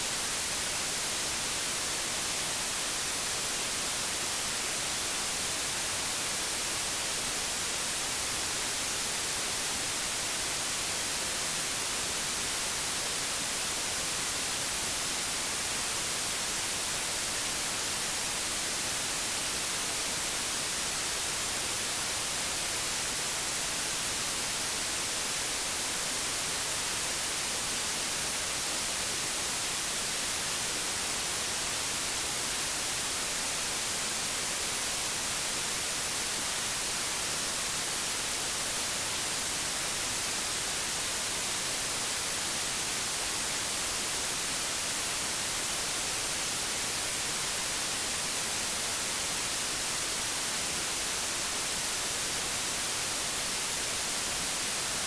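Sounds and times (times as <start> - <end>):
television static hiss: 0.0 - 55.0.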